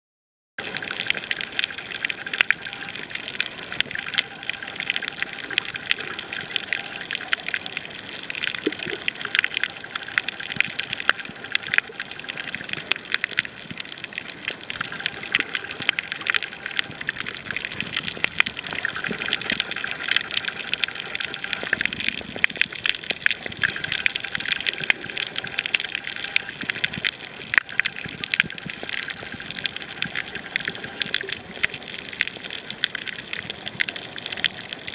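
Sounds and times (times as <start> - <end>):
snapping shrimp crackle underwater: 0.6 - 34.9.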